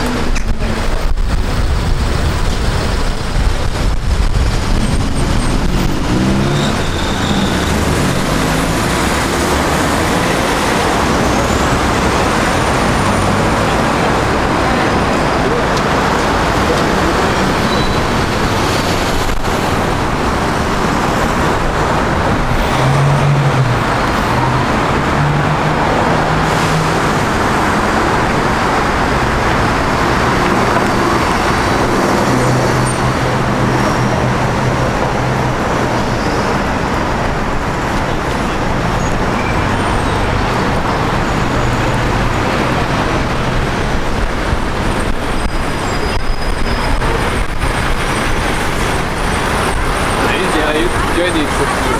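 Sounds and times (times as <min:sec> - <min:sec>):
heavy vehicle engine hum: 0:00.0 - 0:51.9
passing cars rushing: 0:00.0 - 0:51.9.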